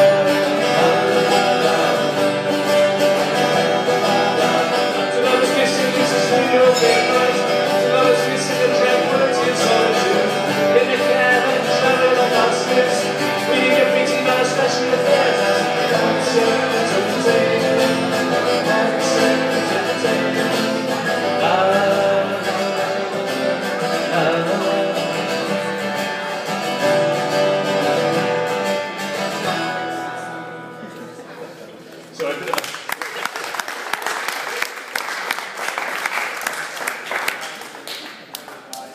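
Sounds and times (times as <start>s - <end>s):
acoustic guitars playing: 0.0s - 32.3s.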